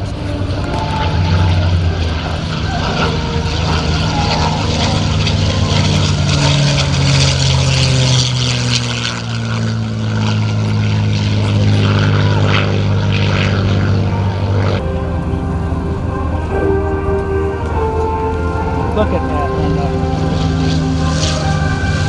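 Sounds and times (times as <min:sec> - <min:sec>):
propeller aircraft engine flyby: 0:00.0 - 0:22.0.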